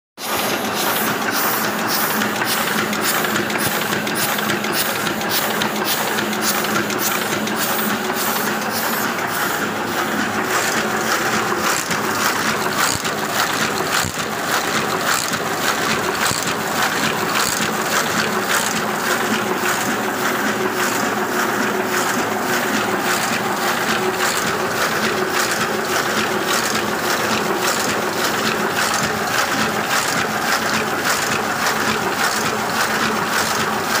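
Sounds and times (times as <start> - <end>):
printing press clattering: 0.2 - 34.0
steady mechanical whir: 0.3 - 34.0.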